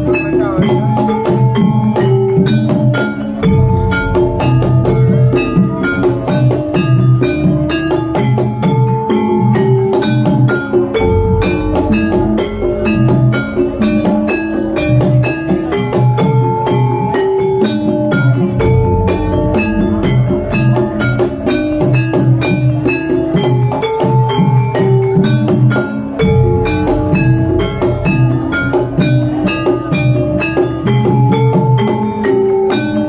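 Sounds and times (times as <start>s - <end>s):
drum strokes: 0.0s - 33.0s
gamelan metal keys: 0.0s - 33.0s.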